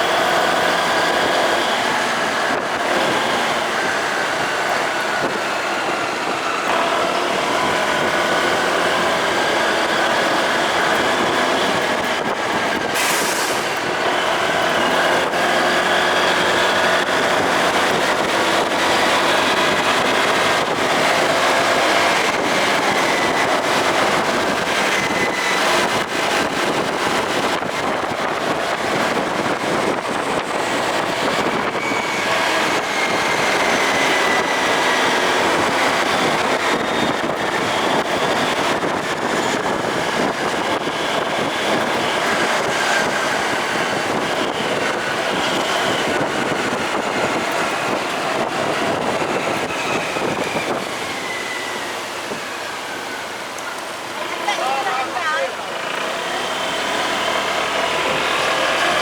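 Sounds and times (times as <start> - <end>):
wind rush over microphone: 0.0 - 59.0.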